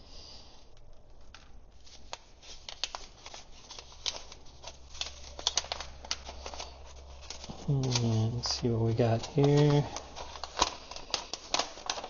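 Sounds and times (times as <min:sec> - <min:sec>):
packaging clicks and crinkles: 0:00.7 - 0:12.0.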